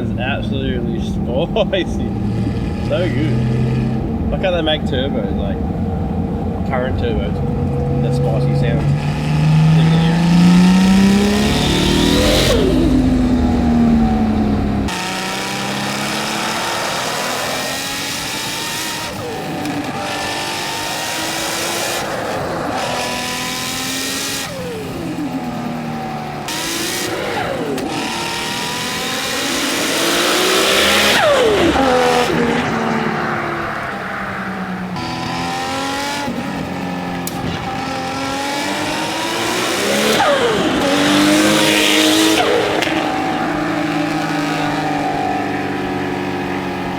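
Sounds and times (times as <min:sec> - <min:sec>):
car engine revving hard: 0:00.0 - 0:46.9.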